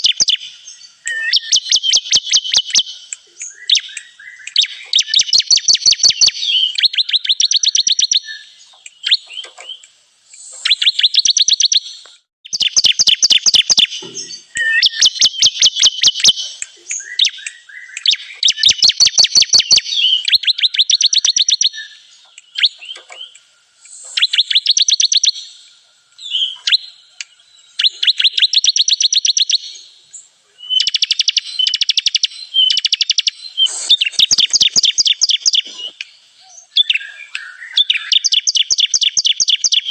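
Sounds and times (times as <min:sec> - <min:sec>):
bird singing rapid high notes: 0:00.0 - 0:25.5, 0:30.6 - 0:39.9.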